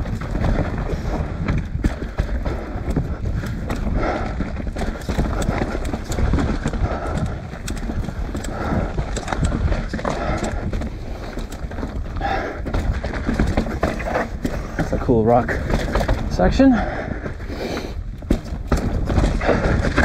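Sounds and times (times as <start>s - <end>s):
bike chain and frame rattling: 0.0s - 20.0s
tyres crunching over dirt and stones: 0.0s - 20.0s
wind rumble on microphone: 0.0s - 20.0s.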